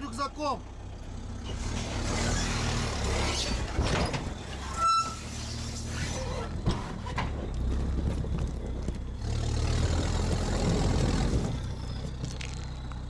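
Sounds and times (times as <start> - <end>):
diesel engine humming: 0.0 - 13.0
tyres crunching over gravel: 1.5 - 13.0.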